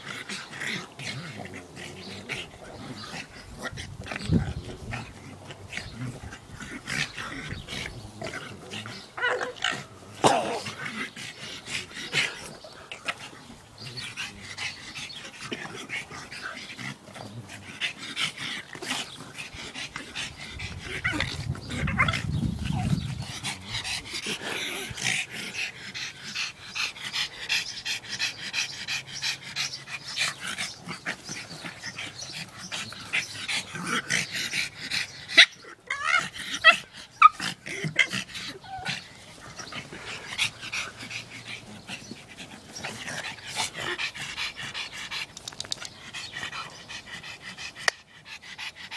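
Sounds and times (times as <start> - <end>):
dogs grunting and snorting: 0.0 - 48.9.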